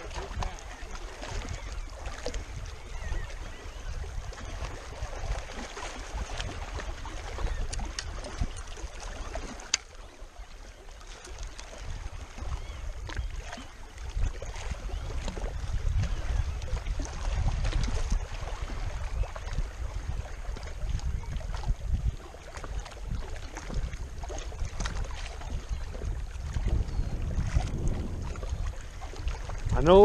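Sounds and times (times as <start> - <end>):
water lapping on rocky shore: 0.0 - 30.0
wind rumbling on microphone: 0.0 - 30.0.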